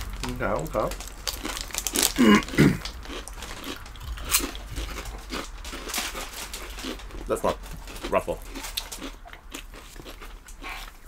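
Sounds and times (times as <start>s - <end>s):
crunching potato chips: 0.0s - 11.0s.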